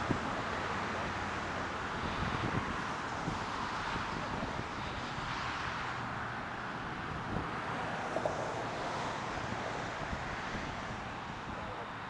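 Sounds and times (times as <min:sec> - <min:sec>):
wind buffeting microphone: 0:00.0 - 0:05.4, 0:06.9 - 0:12.0
road traffic hiss: 0:00.0 - 0:12.0.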